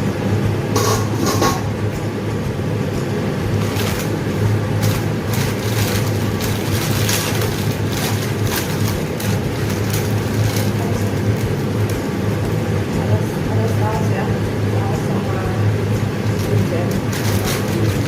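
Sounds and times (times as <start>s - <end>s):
stove rumbling hiss: 0.0s - 18.0s.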